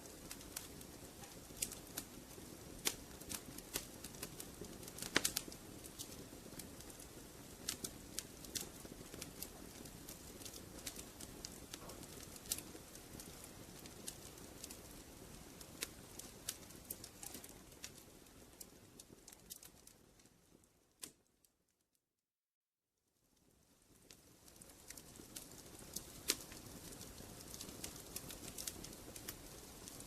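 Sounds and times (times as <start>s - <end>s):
fireplace fire crackling and popping: 0.0s - 21.7s, 23.2s - 30.0s.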